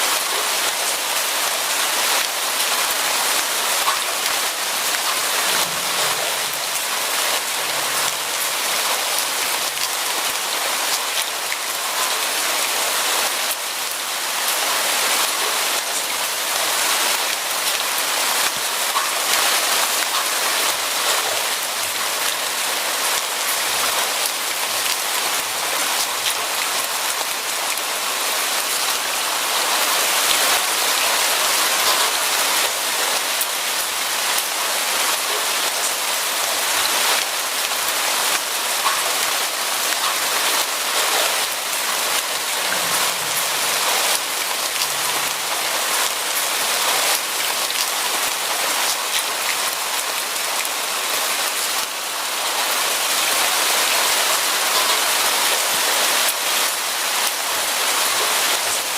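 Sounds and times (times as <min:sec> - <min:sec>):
rain pattering on a surface: 0:00.0 - 0:58.9.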